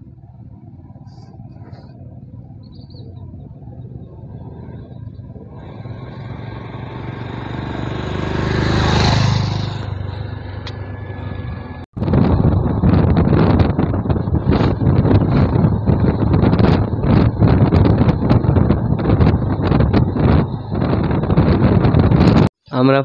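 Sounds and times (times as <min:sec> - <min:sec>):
wind buffeting microphone: 0:00.0 - 0:22.5
motorcycle passing by: 0:00.5 - 0:22.4.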